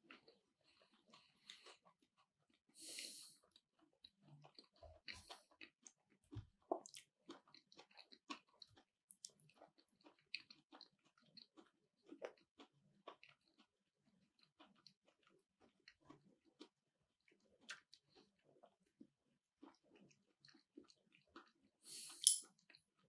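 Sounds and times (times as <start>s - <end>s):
person chewing with mouth clicks: 0.1s - 18.9s, 19.6s - 22.4s.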